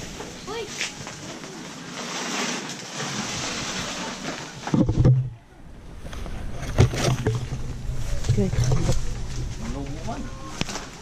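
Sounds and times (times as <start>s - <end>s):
leaves and grass rustling: 0.0s - 4.9s, 5.8s - 11.0s.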